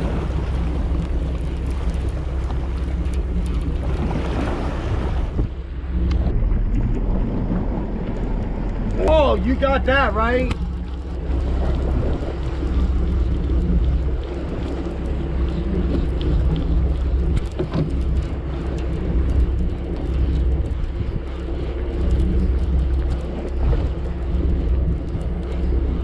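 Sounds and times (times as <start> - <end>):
boat engine rumbling: 0.0 - 26.0
water noise: 0.0 - 26.0
wind: 0.0 - 26.0.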